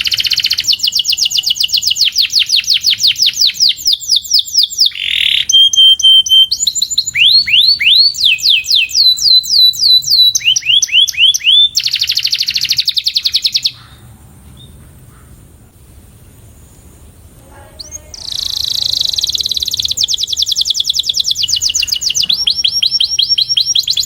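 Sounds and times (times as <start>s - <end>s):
canary singing: 0.0s - 14.8s, 16.4s - 24.0s.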